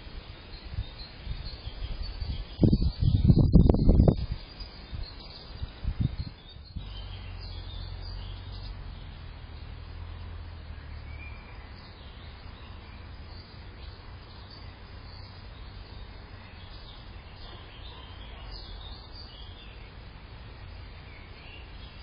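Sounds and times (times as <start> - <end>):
low outdoor rumble: 0.0 - 22.0
faint bird chirps: 0.2 - 22.0.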